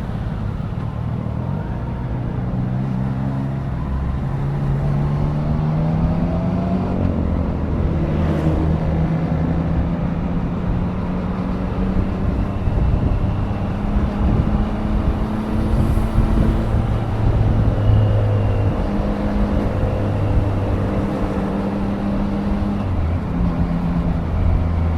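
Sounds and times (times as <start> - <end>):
road and wind noise: 0.0 - 24.9.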